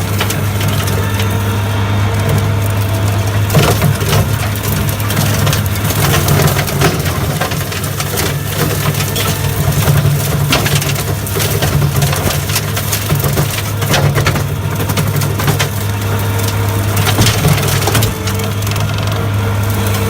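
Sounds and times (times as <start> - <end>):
brush cutter shredding wood: 0.0 - 20.0
skid steer engine running: 0.0 - 20.0.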